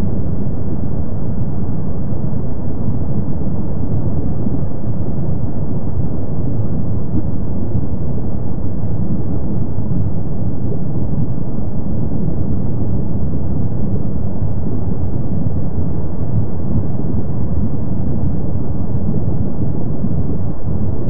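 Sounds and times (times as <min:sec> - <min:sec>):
lava fountains low rumbling roar: 0:00.1 - 0:21.0.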